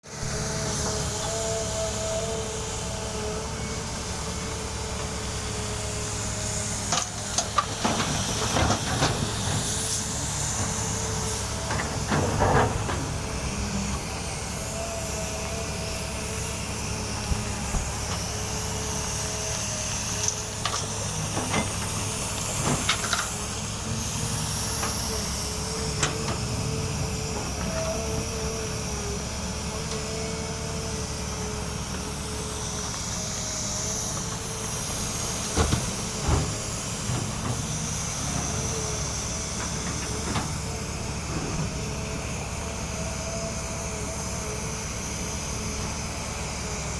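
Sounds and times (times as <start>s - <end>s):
excavator engine drone: 0.0s - 46.9s
hydraulic whine and hiss: 0.1s - 46.9s.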